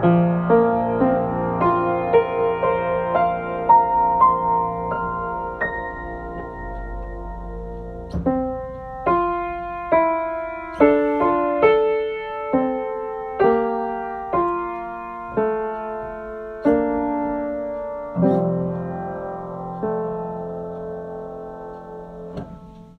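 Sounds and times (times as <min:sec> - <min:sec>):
solo piano chords: 0:00.0 - 0:22.9.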